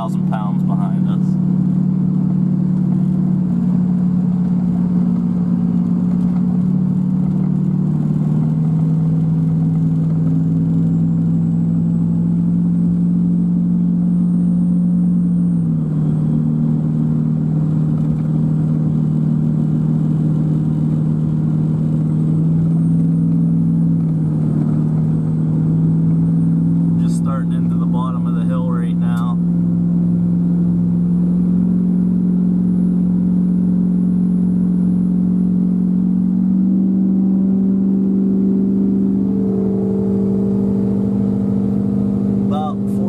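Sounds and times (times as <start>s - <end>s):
diesel truck engine drone: 0.0s - 43.0s.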